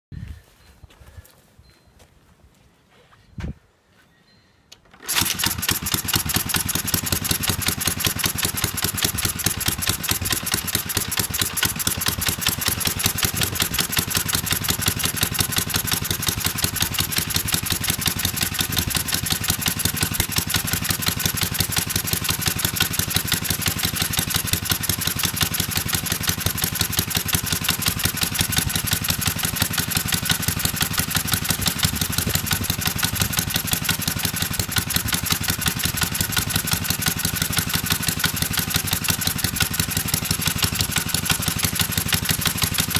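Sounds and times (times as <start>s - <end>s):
single-cylinder engine running: 4.9s - 42.9s.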